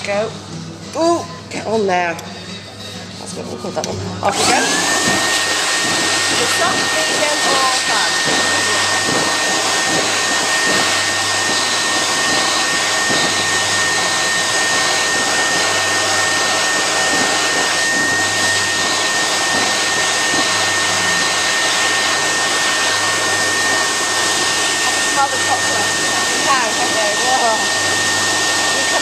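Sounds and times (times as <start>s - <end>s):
blower rush of air: 4.0s - 29.0s.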